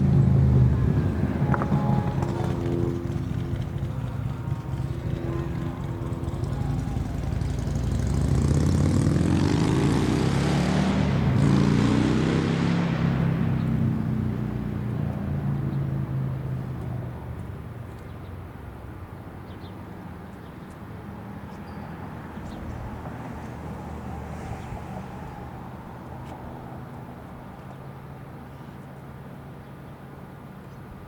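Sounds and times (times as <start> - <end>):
engine passing by: 0.0 - 29.6.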